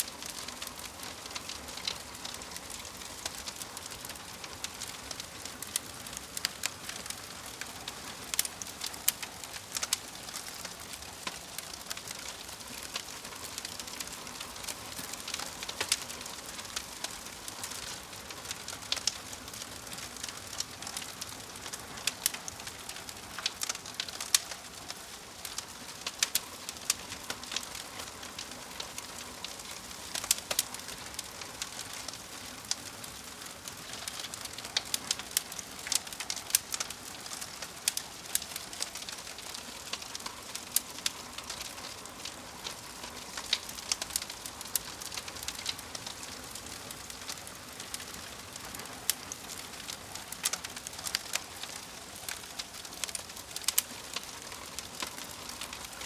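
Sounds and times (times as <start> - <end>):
soft steady hiss: 0.0 - 56.0
wood fire crackling: 0.0 - 56.0.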